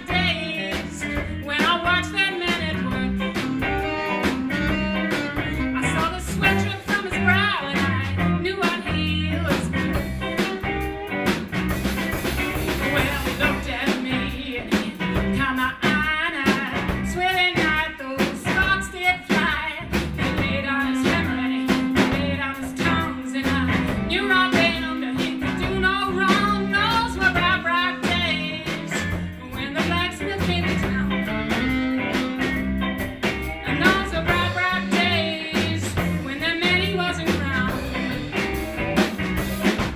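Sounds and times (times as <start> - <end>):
woman singing: 0.0 - 10.6, 12.8 - 32.3, 33.6 - 38.2
bass guitar: 0.0 - 39.9
drums with steady beat: 0.0 - 39.9
electric guitar: 0.0 - 39.9.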